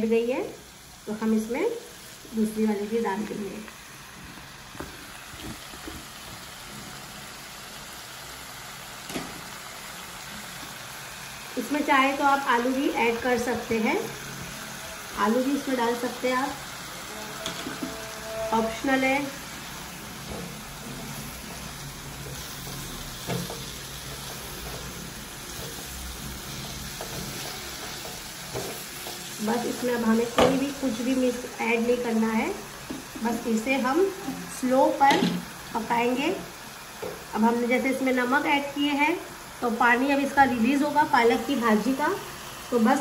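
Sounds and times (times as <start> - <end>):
greens sizzling in a pan: 0.0 - 43.0.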